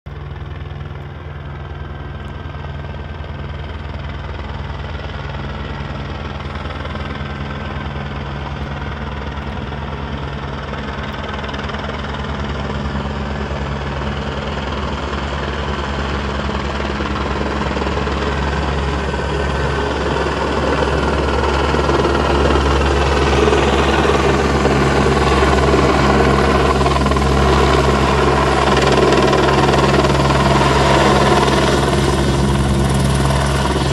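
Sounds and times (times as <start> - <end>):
helicopter rotor and engine: 0.1 - 33.9.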